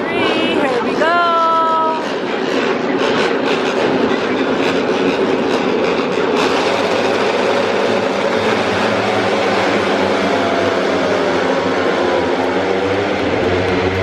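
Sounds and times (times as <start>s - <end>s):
racing motorcycle engines: 0.0s - 14.0s.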